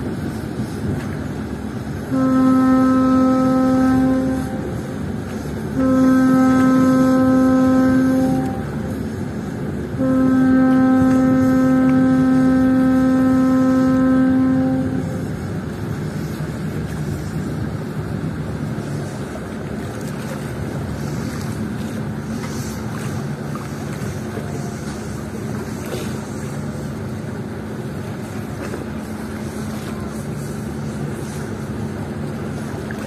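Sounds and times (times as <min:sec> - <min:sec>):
ship's engines rumbling: 0:00.0 - 0:33.0
ship's horn blast: 0:00.0 - 0:33.0
water wash: 0:00.0 - 0:33.0.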